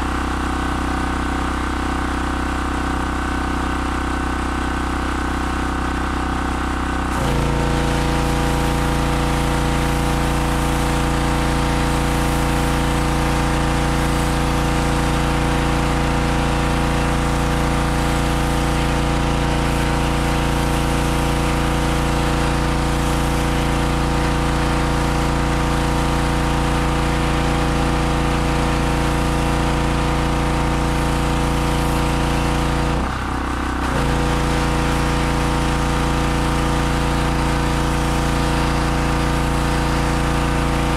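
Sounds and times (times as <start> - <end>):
pressure washer engine running: 0.0 - 40.9.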